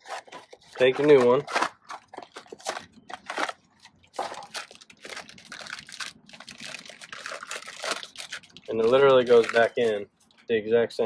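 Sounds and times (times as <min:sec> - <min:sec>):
cardboard and plastic bag crinkling: 0:00.0 - 0:10.4.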